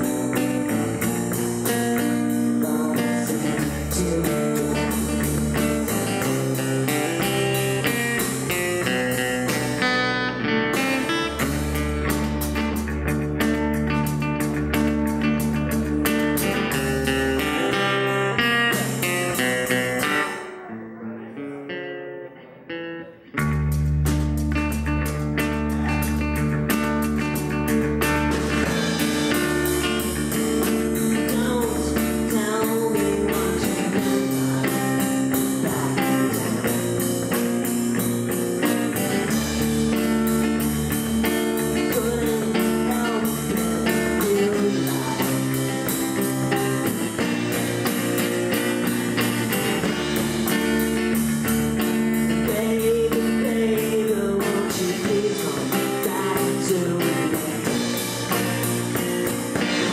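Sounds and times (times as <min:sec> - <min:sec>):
person singing: 0:00.0 - 0:11.9, 0:16.4 - 0:23.4, 0:28.4 - 0:59.9
drum kit beat: 0:00.0 - 0:20.8, 0:23.4 - 0:59.9
guitars: 0:00.0 - 0:59.9.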